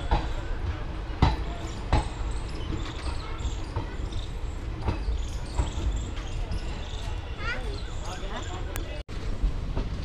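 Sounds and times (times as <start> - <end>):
train low rumble: 0.0 - 10.0
wheels clacking over rail joints: 0.0 - 10.0.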